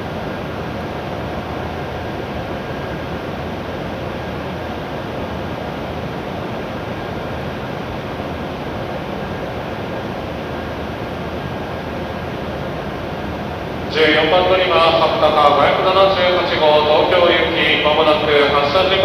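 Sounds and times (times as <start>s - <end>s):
train air-conditioning running: 0.0s - 19.0s.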